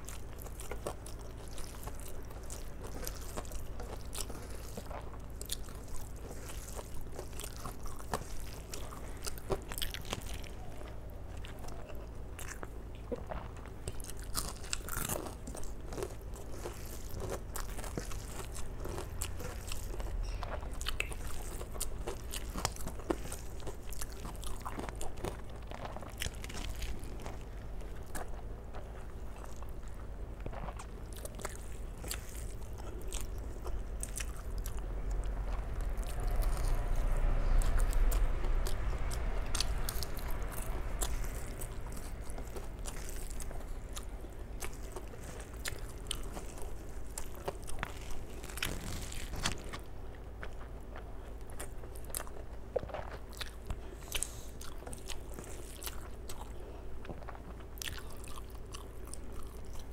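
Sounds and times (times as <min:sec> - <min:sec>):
chewing and lip smacks: 0:00.0 - 0:59.9
crunchy chewing: 0:00.0 - 0:59.9.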